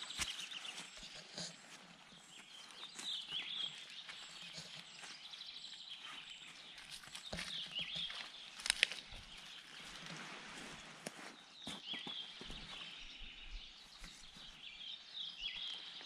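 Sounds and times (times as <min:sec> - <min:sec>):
forest birds singing: 0:00.0 - 0:16.0.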